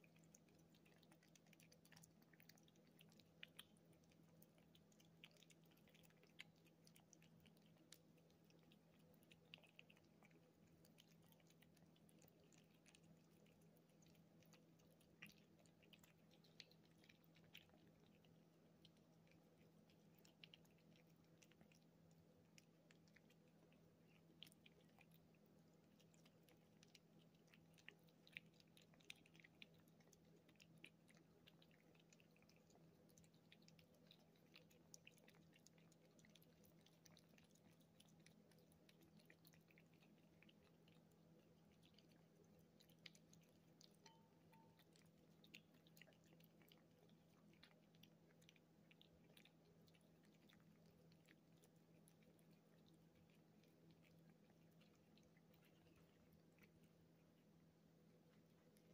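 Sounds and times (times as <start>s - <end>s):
kittens licking and chewing: 0.0s - 58.9s.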